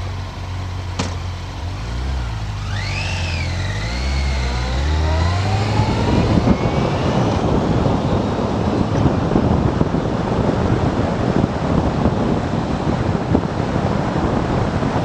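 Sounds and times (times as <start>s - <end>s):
motorcycle engine accelerating: 0.0s - 15.0s
wind noise on microphone: 0.0s - 15.0s.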